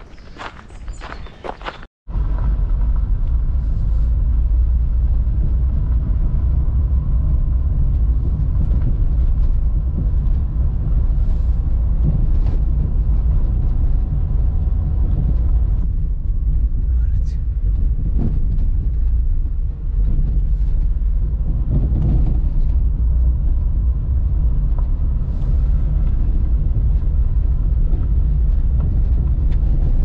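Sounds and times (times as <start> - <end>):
car road and engine rumble: 2.1 - 30.0.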